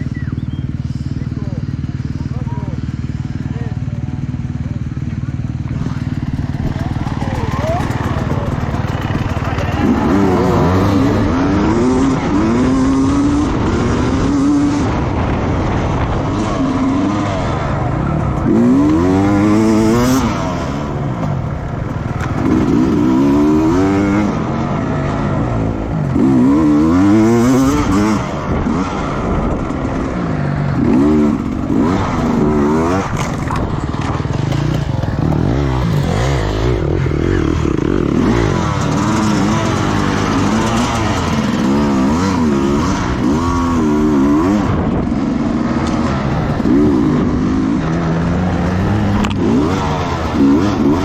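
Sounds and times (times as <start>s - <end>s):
motorcycle engines accelerating: 0.0s - 51.0s.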